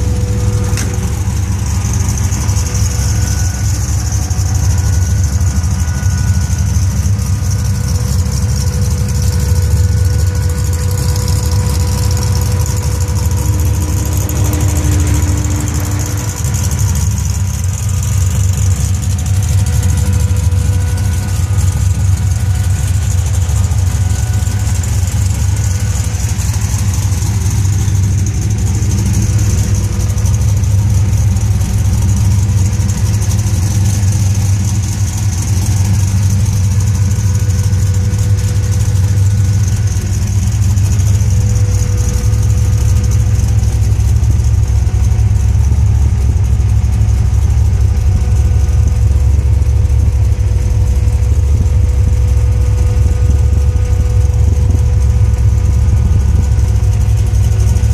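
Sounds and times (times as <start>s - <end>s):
supercharged engine idling: 0.0s - 57.9s.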